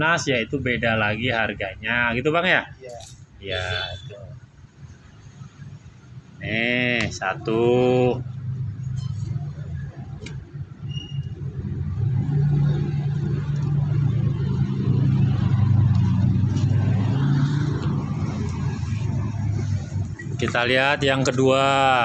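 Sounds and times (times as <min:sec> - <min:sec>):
vehicle engine humming: 0:03.2 - 0:22.0.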